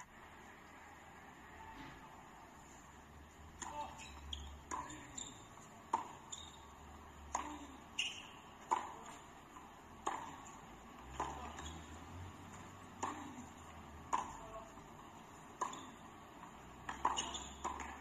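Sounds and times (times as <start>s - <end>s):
tennis ball struck by rackets: 3.5s - 18.0s.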